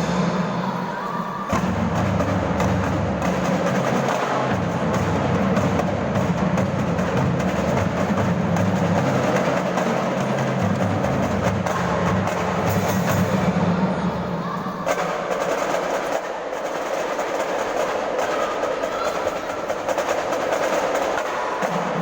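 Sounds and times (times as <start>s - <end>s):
marching band drums: 1.5s - 22.0s.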